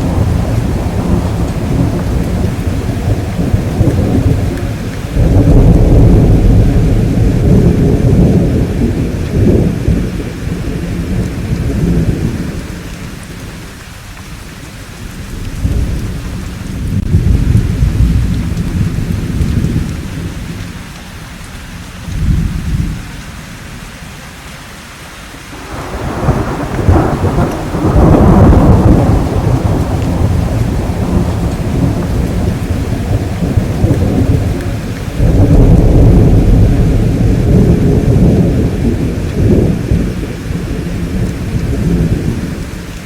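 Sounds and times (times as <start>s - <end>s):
sharp thunderclap: 0.0s - 12.6s, 15.4s - 20.6s, 25.6s - 42.7s
deep rolls of thunder: 0.0s - 13.6s, 15.0s - 20.8s, 25.6s - 43.0s
steady rain hissing: 0.0s - 43.0s.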